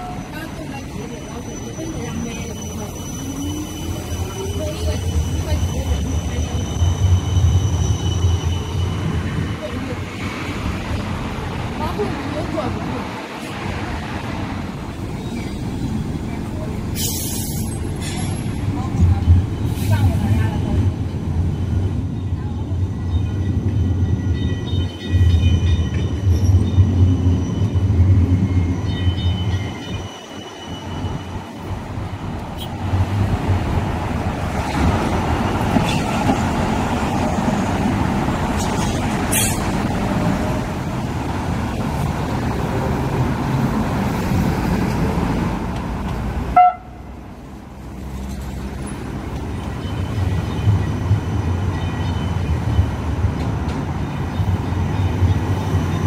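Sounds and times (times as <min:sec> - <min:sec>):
high electric tram whine: 0:00.0 - 0:56.0
tram rolling over rails: 0:00.0 - 0:56.0.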